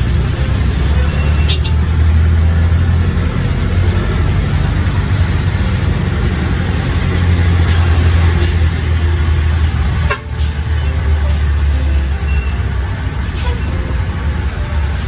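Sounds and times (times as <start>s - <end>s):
diesel bus engine passing: 0.0s - 15.0s
heavy rain: 0.0s - 15.0s
tyres on wet road: 0.0s - 15.0s.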